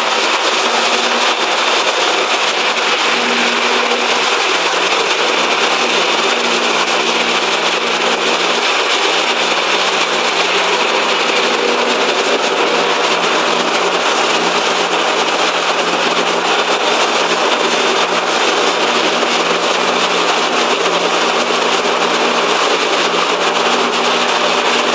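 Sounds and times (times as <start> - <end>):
loud rushing noise: 0.0 - 20.0.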